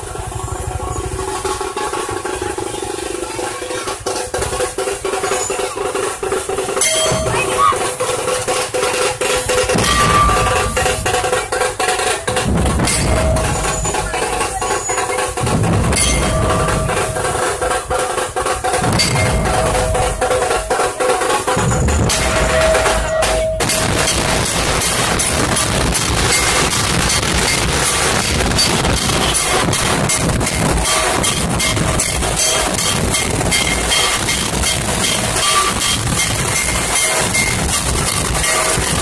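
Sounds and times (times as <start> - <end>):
deep drum strokes: 0.0 - 39.0
rapid dense drumming: 0.0 - 39.0.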